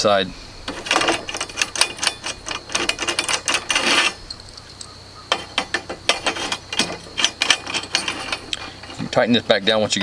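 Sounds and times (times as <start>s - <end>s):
metal hardware clicking and rattling: 0.7s - 10.0s.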